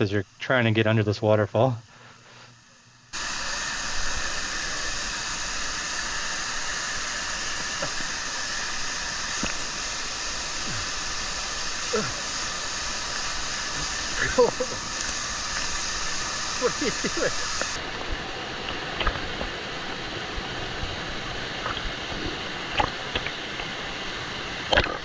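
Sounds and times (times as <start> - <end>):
waterfall rushing: 3.2 - 25.0.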